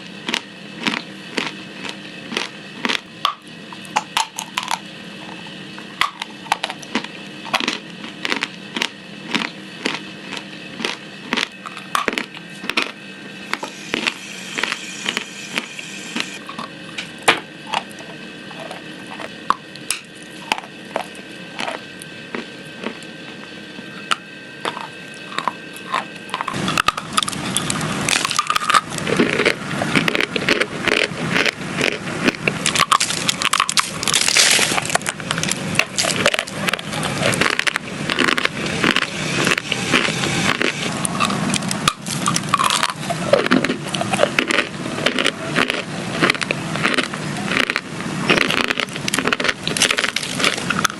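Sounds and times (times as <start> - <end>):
crunchy food being eaten: 0.0 - 50.9.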